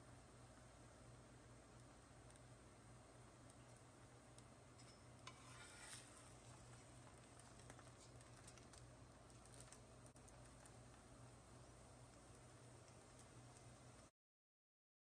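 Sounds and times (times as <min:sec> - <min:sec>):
faint steady hum: 0:00.0 - 0:14.1.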